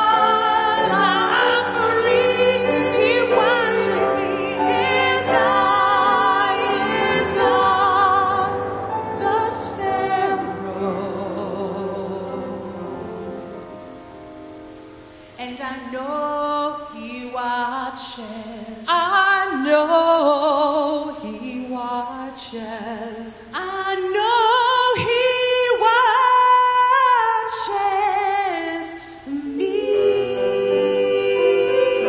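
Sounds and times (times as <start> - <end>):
women singing a hymn duet: 0.0 - 13.1, 15.4 - 32.0.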